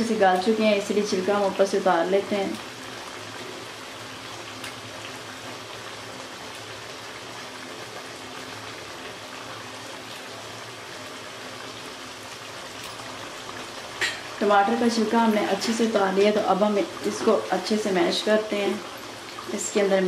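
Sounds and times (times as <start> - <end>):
liquid bubbling with hiss: 0.0 - 20.0.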